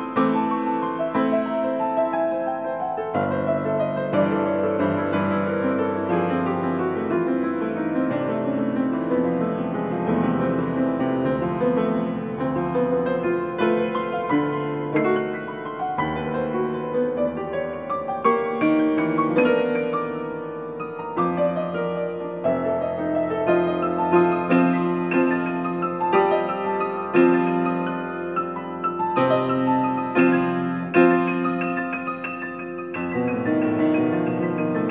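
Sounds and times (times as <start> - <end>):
solo grand piano: 0.0 - 34.9.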